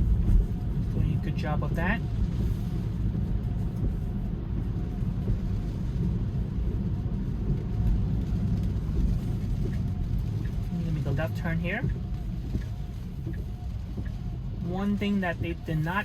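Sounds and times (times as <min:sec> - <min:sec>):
rain: 0:00.0 - 0:16.0
tyre and road noise: 0:00.0 - 0:16.0
wind: 0:00.0 - 0:16.0.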